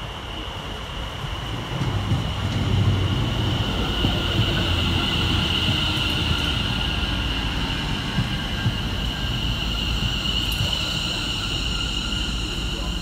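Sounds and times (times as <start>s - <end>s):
train high whine: 0.0s - 13.0s
train wheels rumbling on rails: 0.0s - 13.0s.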